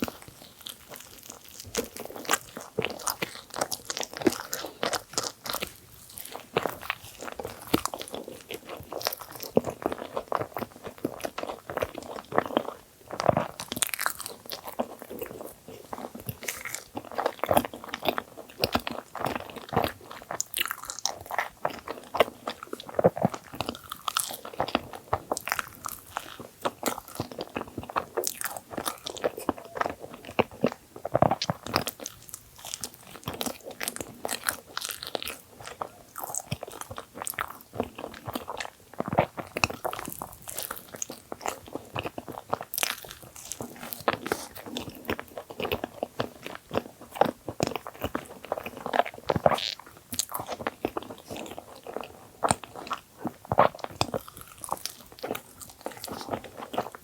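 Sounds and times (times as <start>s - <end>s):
wet chewing and crunching: 0.0s - 57.0s.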